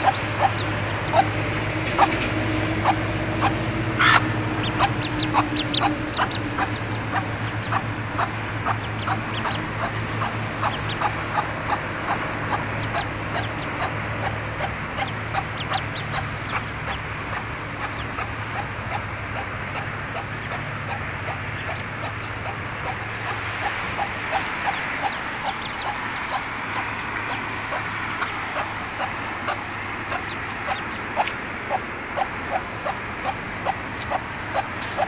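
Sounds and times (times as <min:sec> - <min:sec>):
ducklings peeping: 0:00.0 - 0:35.0
hen clucking: 0:00.0 - 0:35.0.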